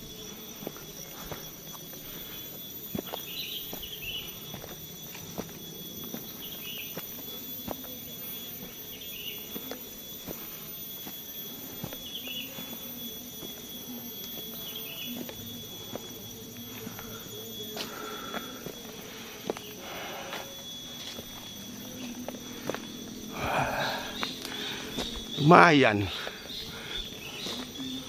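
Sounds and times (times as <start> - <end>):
footsteps on dirt trail: 0.0 - 28.0
high insect drone: 0.0 - 28.0.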